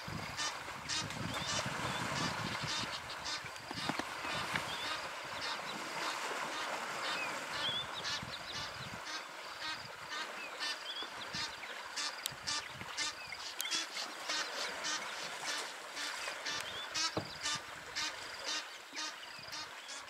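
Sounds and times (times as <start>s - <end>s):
birds calling: 0.4s - 20.0s.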